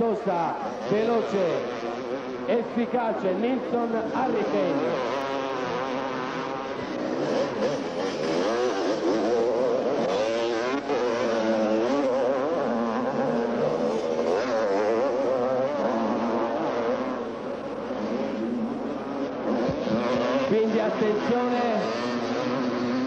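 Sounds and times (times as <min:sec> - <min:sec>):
motocross motorcycle engines racing: 0:00.0 - 0:23.0.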